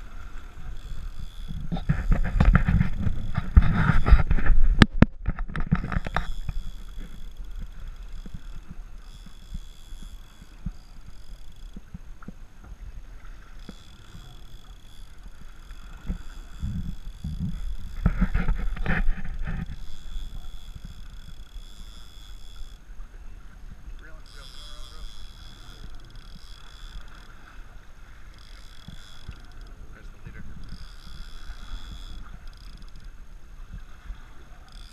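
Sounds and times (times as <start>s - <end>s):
boat engine rumble: 0.0s - 34.9s
water noise: 0.0s - 34.9s
wind: 0.0s - 34.9s.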